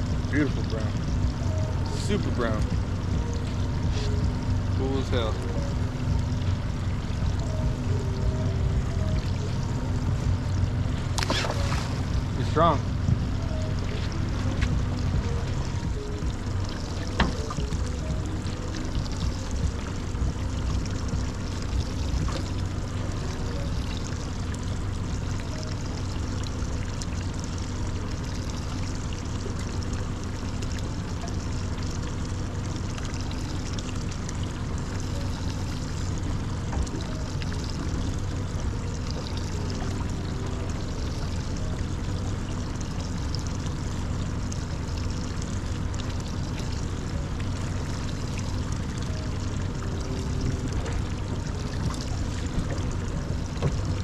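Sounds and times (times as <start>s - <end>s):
low hum: 0.0s - 54.0s
water pouring and trickling: 0.0s - 54.0s.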